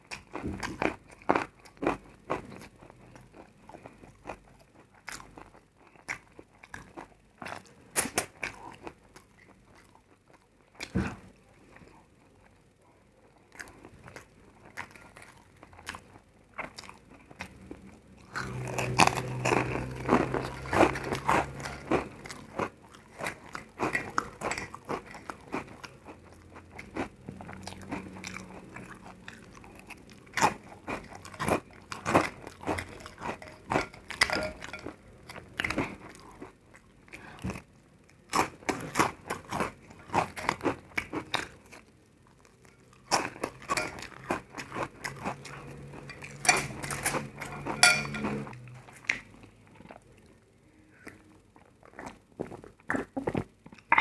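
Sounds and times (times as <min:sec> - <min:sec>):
crunchy food chewing: 0:00.0 - 0:54.0.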